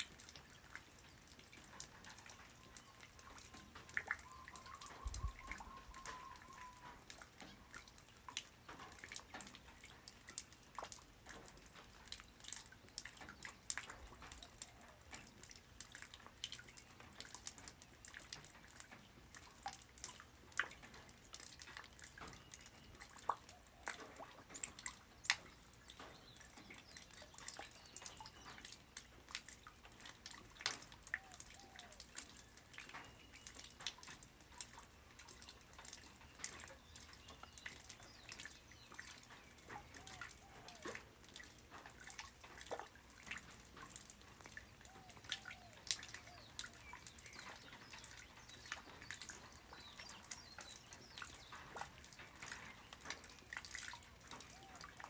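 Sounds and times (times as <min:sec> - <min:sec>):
light rain dripping: 0:00.0 - 0:55.0.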